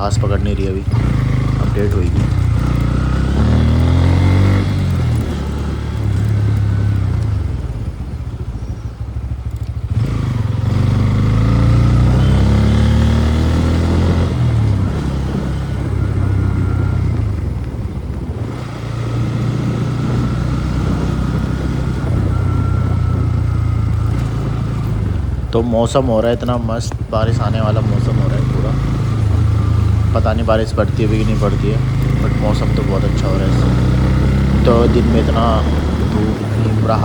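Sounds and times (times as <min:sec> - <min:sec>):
motorcycle engine accelerating: 0:00.0 - 0:37.0
wind noise on microphone: 0:00.0 - 0:37.0.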